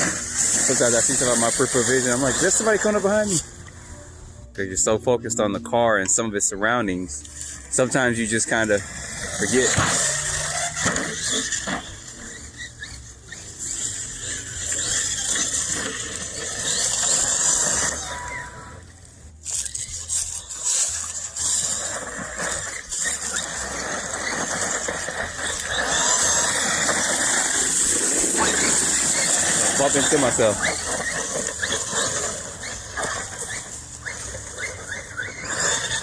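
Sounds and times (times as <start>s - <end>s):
toy truck electric motor whining: 0.0s - 4.1s, 7.2s - 36.0s.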